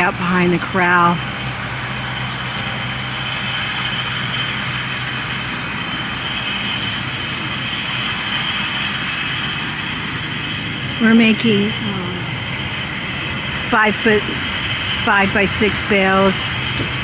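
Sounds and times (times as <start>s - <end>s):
tractor pulling a baler: 0.0s - 17.0s.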